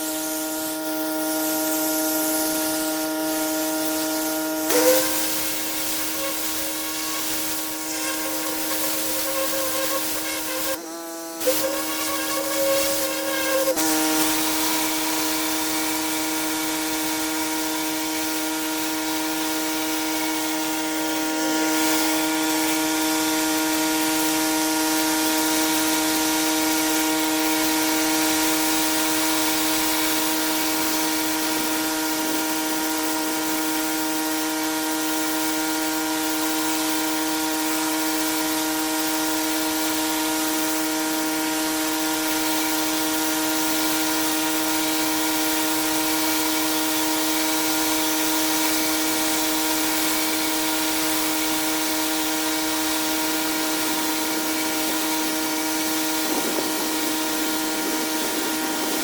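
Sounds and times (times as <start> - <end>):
high-pressure water spray hissing: 0.0 - 10.8, 11.4 - 59.0
pressure washer whine: 0.0 - 59.0.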